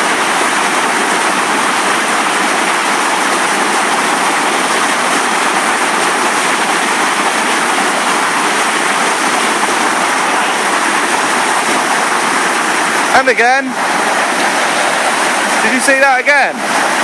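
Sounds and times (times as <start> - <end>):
white water rushing over rocks: 0.0 - 17.0.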